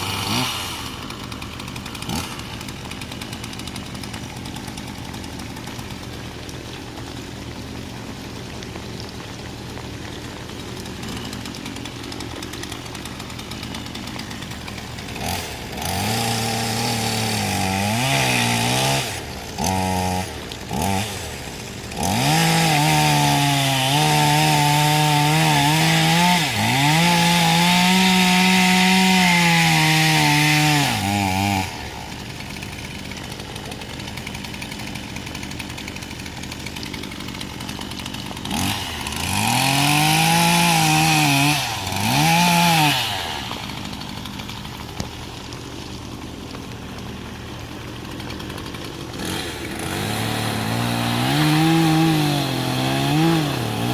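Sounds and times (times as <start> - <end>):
chainsaw cutting through tree: 0.0 - 53.9
chainsaw idling and revving: 0.0 - 53.9.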